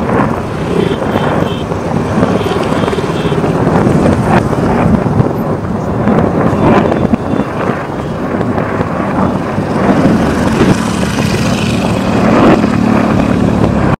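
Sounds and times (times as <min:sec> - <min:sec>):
distant firecrackers and fireworks: 0:00.0 - 0:13.9
wind on microphone: 0:00.0 - 0:13.9.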